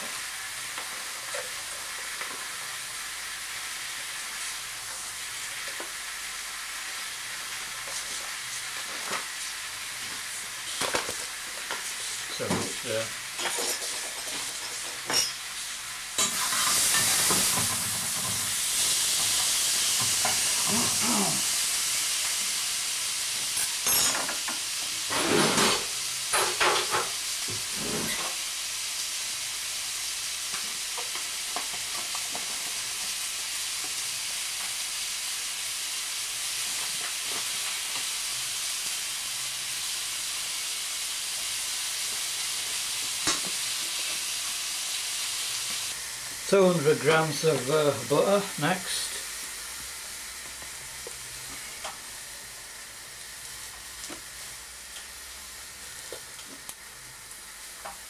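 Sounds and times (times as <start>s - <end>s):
fruit sizzling in a pan: 0.0s - 58.0s.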